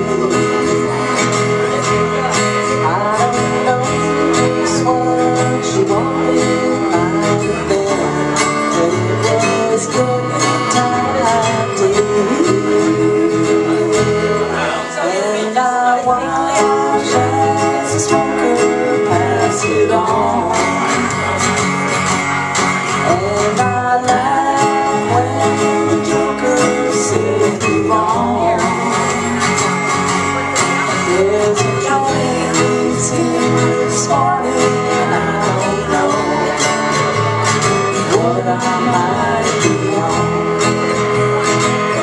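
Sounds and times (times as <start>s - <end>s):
electric bass: 0.0s - 14.6s, 16.0s - 42.0s
strummed acoustic guitar: 0.0s - 42.0s
woman singing: 2.7s - 21.3s, 23.0s - 29.8s, 31.0s - 37.1s, 38.0s - 40.7s.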